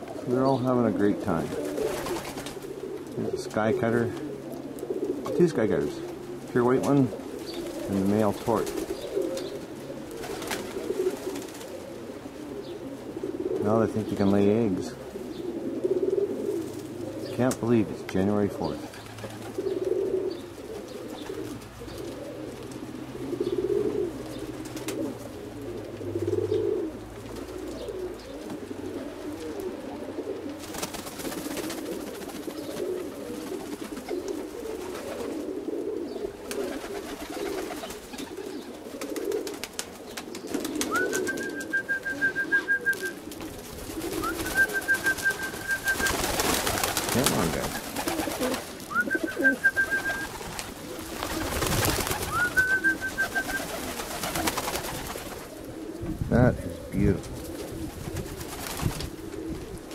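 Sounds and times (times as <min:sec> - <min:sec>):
pigeons cooing: 0:00.0 - 0:59.9.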